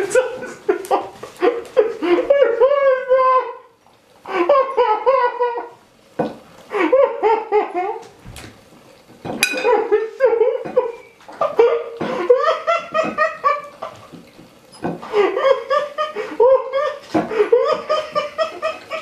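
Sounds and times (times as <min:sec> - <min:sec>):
person laughing hard: 0:00.0 - 0:05.8, 0:06.7 - 0:08.1, 0:09.6 - 0:14.2, 0:15.0 - 0:19.0.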